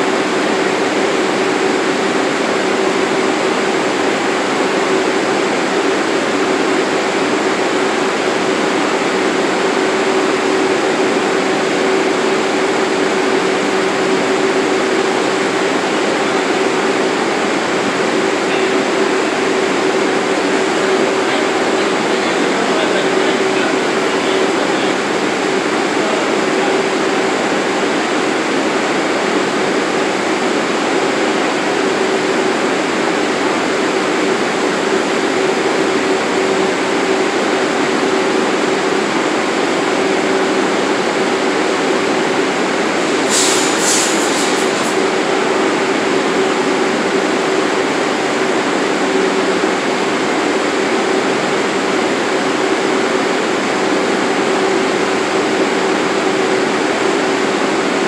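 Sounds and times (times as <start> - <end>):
train equipment hum and hiss: 0.0 - 58.0.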